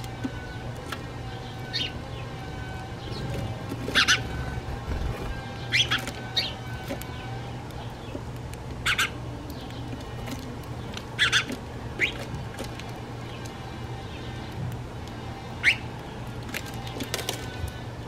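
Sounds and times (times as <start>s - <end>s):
sparrows chirping: 0.0s - 18.0s
steady low hum: 0.0s - 18.0s.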